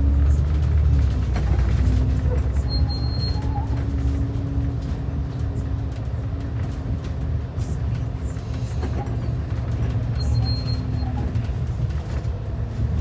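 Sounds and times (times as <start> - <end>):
bus engine and road rumble: 0.0 - 13.0
constant hum: 0.0 - 13.0.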